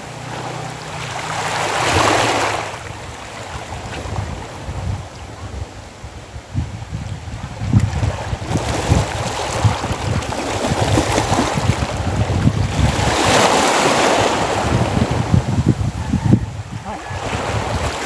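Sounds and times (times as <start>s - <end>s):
small waves washing: 0.0s - 6.0s, 7.2s - 15.5s, 16.8s - 18.0s
wind buffeting microphone: 1.7s - 18.0s.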